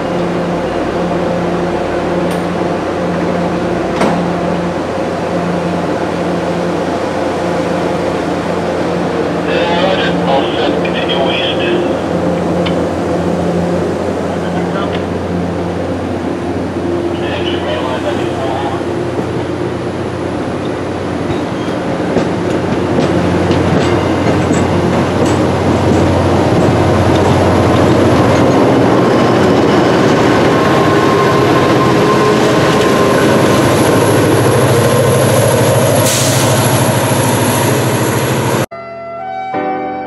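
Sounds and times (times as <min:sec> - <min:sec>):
diesel locomotive engine drone: 0:00.0 - 0:38.7
train wheels rumbling on rail: 0:00.0 - 0:38.7.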